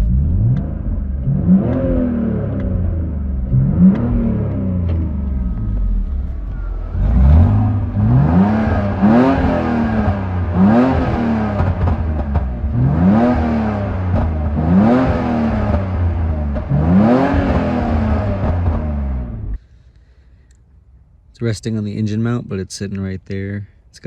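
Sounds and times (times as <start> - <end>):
car engine revving: 0.0 - 19.6
car engine idling: 0.0 - 21.3.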